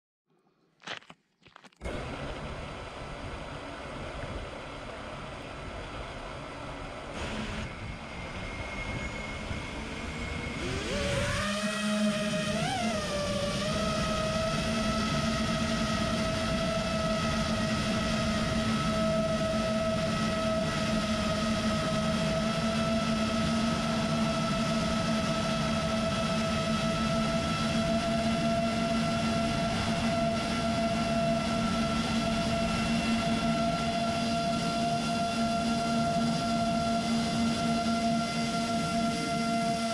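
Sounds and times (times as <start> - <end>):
quadcopter motors whining: 4.0 - 39.9.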